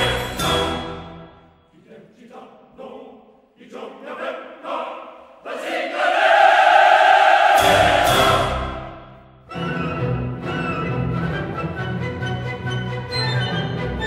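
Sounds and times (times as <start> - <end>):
choral music: 0.0 - 14.0.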